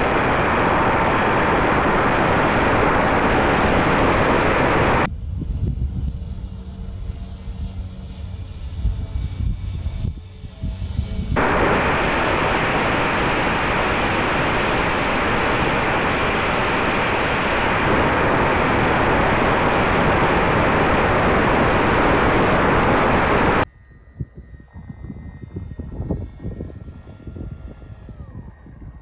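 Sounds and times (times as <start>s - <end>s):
distant propeller buzz: 0.0s - 29.0s
electric motor and propeller hum: 0.0s - 29.0s
wind rushing over camera: 0.0s - 29.0s.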